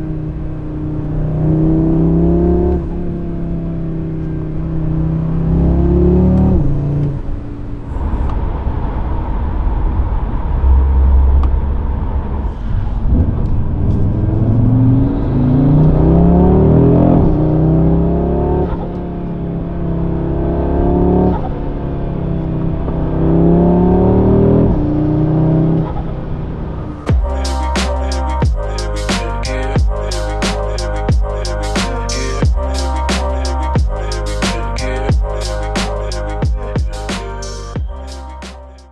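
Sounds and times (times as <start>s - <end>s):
car engine accelerating hard: 0.0s - 31.3s.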